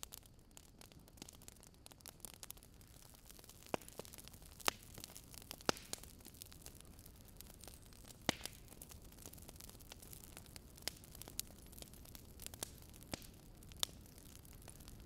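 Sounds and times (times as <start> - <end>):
campfire crackling and popping: 0.0 - 15.0
faint steady hiss: 0.0 - 15.0.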